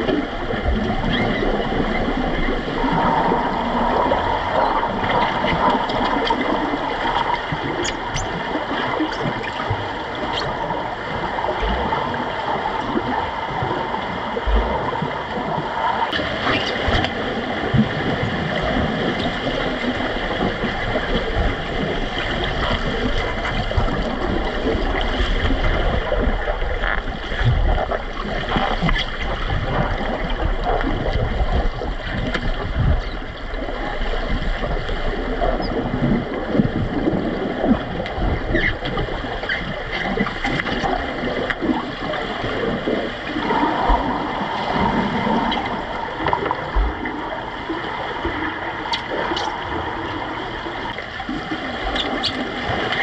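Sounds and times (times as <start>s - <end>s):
underwater rushing and gurgling: 0.0s - 53.0s.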